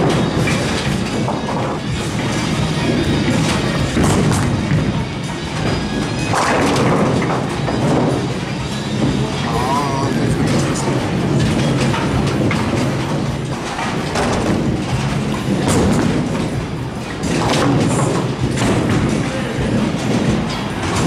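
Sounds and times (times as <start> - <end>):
bowling balls rumbling: 0.0 - 21.0
music playing: 0.0 - 21.0.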